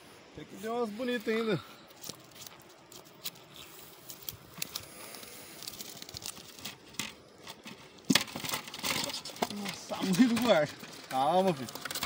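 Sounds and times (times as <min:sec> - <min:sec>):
mesh net rustling and crinkling: 0:01.9 - 0:12.0.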